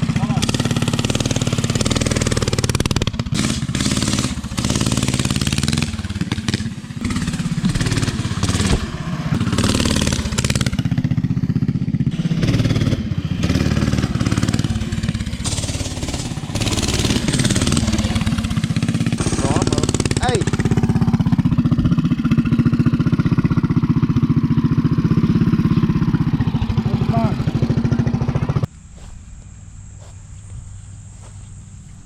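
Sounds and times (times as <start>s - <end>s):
small engine revving: 0.0s - 29.1s.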